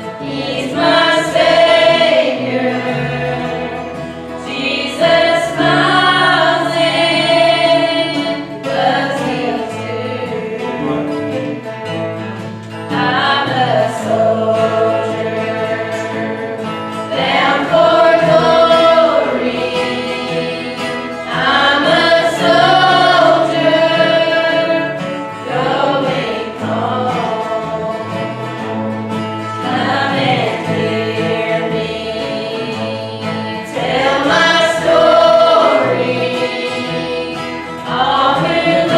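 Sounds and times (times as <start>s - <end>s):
church choir singing gospel: 0.0s - 38.9s
instrumental accompaniment: 0.0s - 38.9s.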